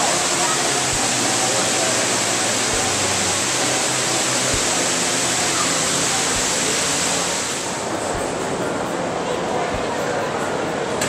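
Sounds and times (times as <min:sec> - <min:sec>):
indoor waterfall rushing: 0:00.0 - 0:09.3.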